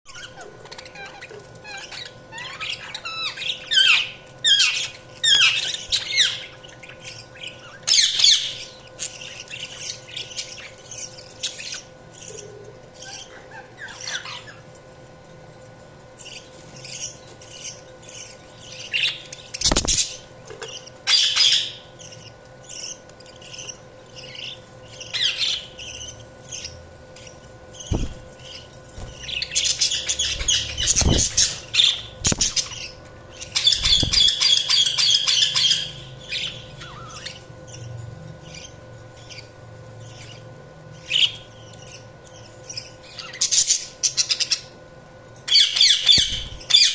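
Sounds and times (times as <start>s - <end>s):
budgerigars chirping: 0.1s - 14.8s, 16.2s - 44.8s, 45.5s - 46.9s
faint steady hum: 0.1s - 46.9s.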